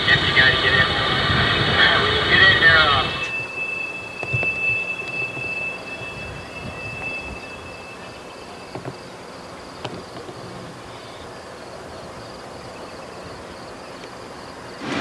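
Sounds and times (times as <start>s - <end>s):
insects trilling: 2.3s - 15.0s.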